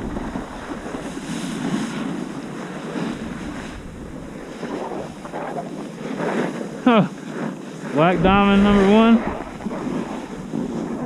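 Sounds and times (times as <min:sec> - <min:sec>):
skis scraping over snow: 0:00.0 - 0:11.0
wind buffeting microphone: 0:00.0 - 0:11.0.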